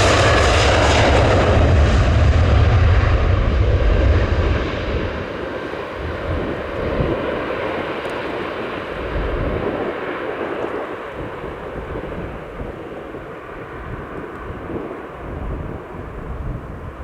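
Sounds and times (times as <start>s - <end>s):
jet airliner engine rumble: 0.0s - 17.0s.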